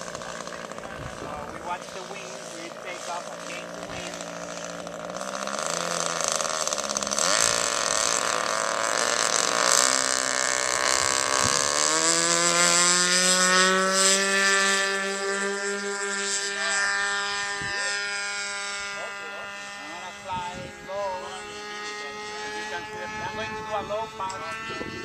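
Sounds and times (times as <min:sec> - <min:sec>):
model airplane engine droning: 0:00.0 - 0:25.0.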